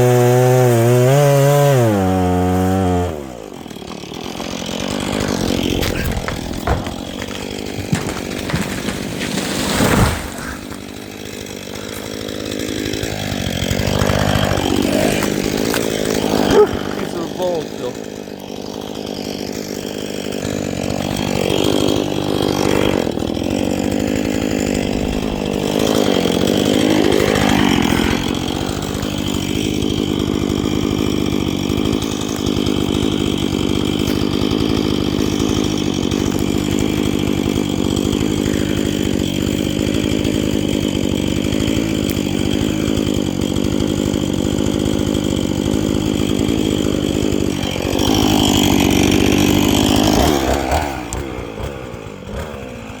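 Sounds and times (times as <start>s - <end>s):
chainsaw revving and cutting: 0.0s - 53.0s.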